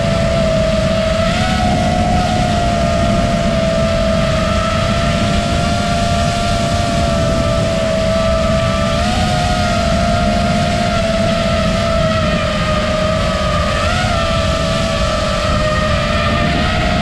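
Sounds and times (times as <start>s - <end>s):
drone motors whining: 0.0s - 17.0s
wind noise on microphone: 0.0s - 17.0s.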